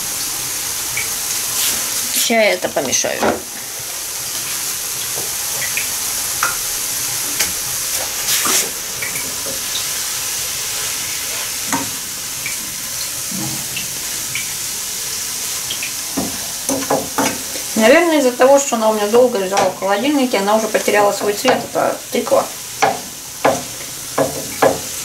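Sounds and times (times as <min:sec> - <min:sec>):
vegetables sizzling in a frying pan: 0:00.0 - 0:25.0.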